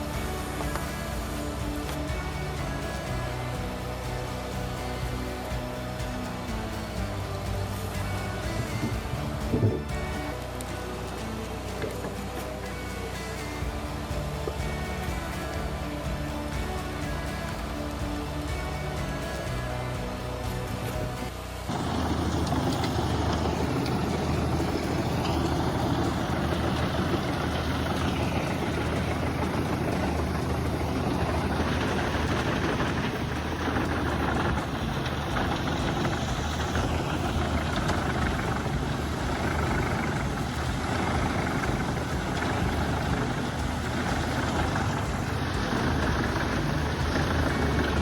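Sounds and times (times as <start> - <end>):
heavy machine engine running: 0.0 - 48.0.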